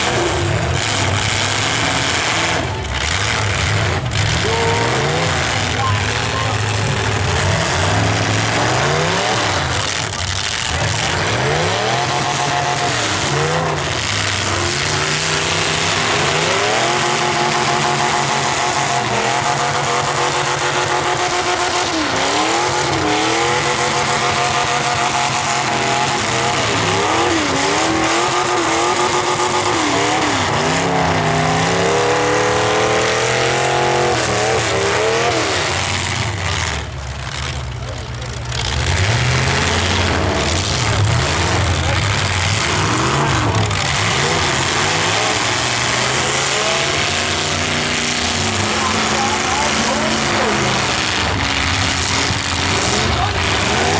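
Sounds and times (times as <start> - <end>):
car engines revving: 0.0 - 53.9.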